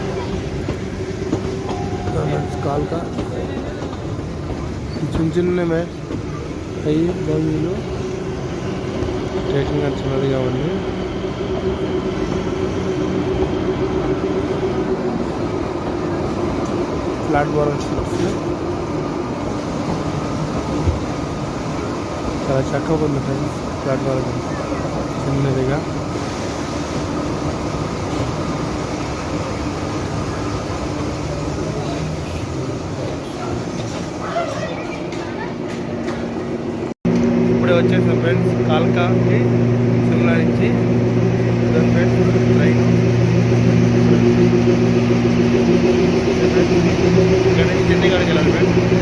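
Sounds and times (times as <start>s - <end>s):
train droning hum: 0.0s - 49.0s.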